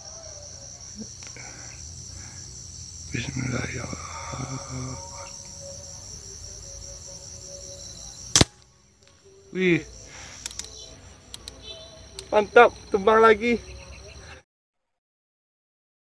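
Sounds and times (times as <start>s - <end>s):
insects chirring: 0.0s - 14.4s.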